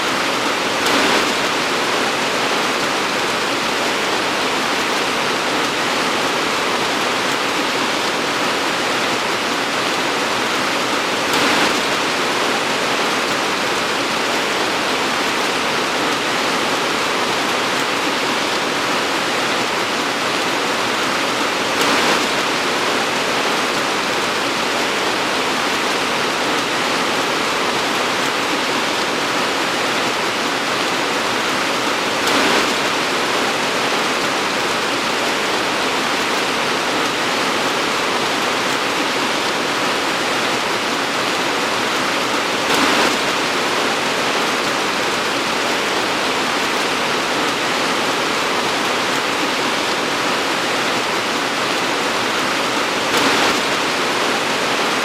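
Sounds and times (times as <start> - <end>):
torrential rain: 0.0 - 55.0.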